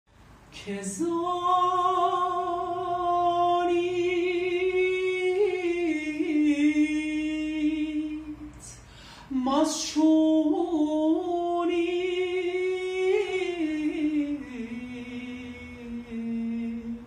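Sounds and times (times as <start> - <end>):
person singing unaccompanied: 0.5 - 17.0.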